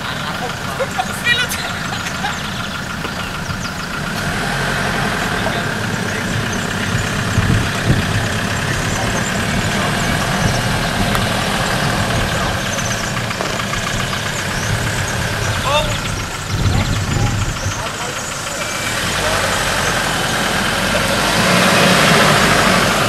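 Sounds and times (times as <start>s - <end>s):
pickup engine idling: 0.0s - 23.0s.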